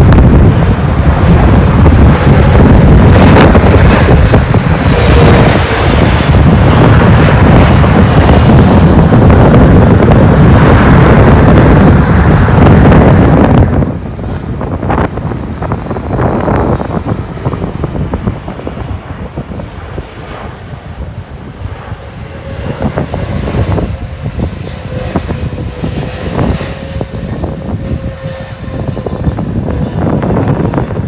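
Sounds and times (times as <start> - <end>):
deep jet engine rumble: 0.0 - 31.0
wind buffeting microphone: 0.0 - 31.0.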